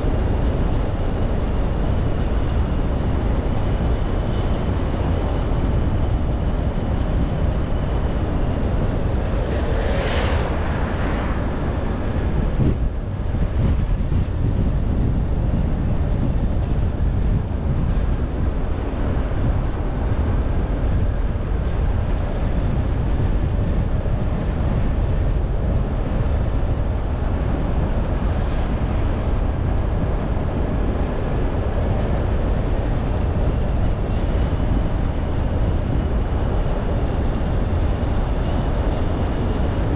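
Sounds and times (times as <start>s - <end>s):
rush of noise: 0.0s - 39.9s.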